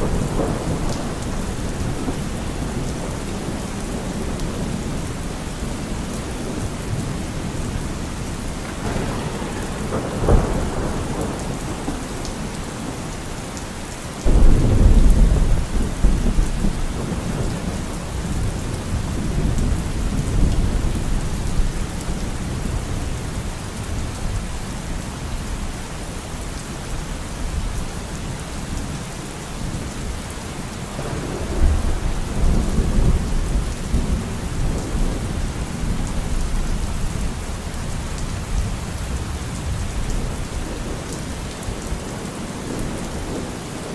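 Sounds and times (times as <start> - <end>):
thunder rumbling: 0.0 - 24.4, 30.7 - 43.9
steady rain: 0.0 - 43.9.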